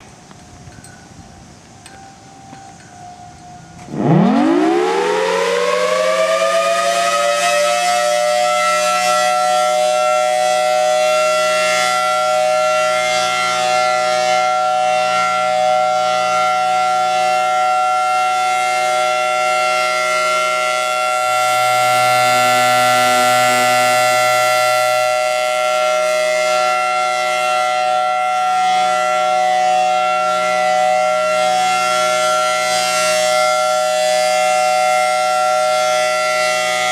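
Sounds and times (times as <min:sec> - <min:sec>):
distant sirens: 0:00.0 - 0:36.9
two-tone tornado siren wailing: 0:00.0 - 0:36.9.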